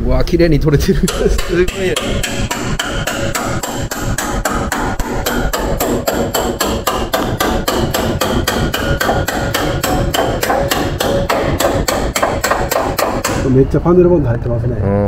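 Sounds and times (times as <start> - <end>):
hammer striking steel chisel: 1.1 - 13.5.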